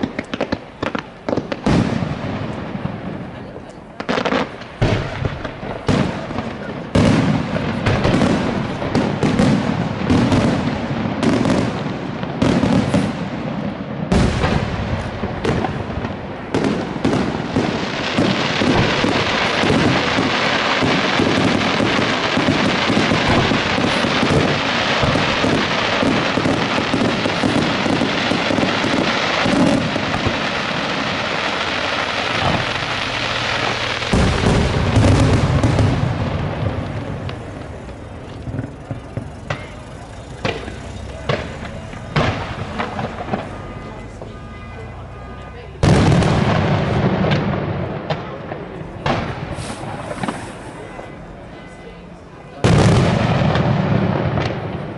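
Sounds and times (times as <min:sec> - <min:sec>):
heavy firework booms: 0:00.0 - 0:51.1, 0:52.6 - 0:54.9
rapid firework barrage: 0:00.0 - 0:51.8, 0:52.6 - 0:54.9
fireworks bangs: 0:00.0 - 0:54.9.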